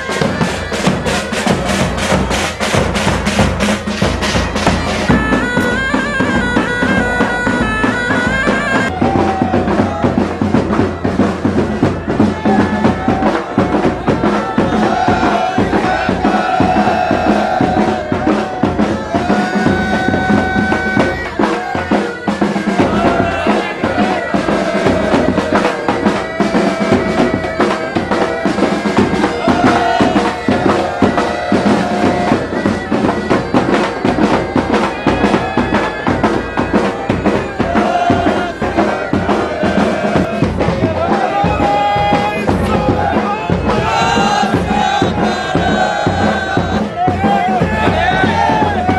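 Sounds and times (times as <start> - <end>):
bagpipes droning: 0.0 - 48.9
snare and bass drums beating: 0.0 - 48.9.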